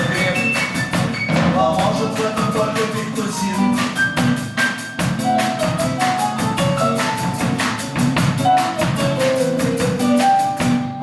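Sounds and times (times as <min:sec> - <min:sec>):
drums: 0:00.0 - 0:11.0
guitar: 0:00.0 - 0:11.0
keyboard: 0:00.0 - 0:11.0
walking double bass line: 0:00.0 - 0:11.0.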